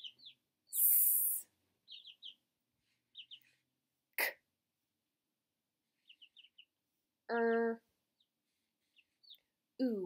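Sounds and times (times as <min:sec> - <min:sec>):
small bird chirping: 0:00.0 - 0:04.5, 0:05.8 - 0:10.0.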